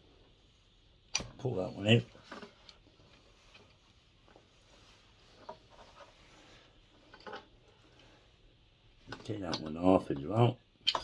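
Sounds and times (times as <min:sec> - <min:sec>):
faint clicks and rubbing of parts: 0:01.0 - 0:11.0.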